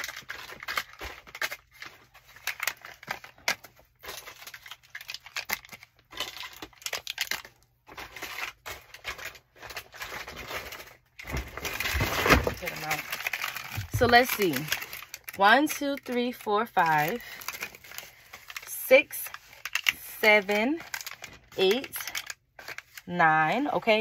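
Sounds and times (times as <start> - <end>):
plastic packaging crinkling: 0.0 - 23.1.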